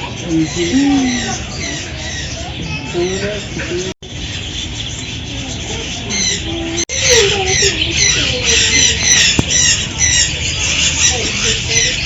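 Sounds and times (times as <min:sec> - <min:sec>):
caged birds chirping and squawking: 0:00.0 - 0:12.0.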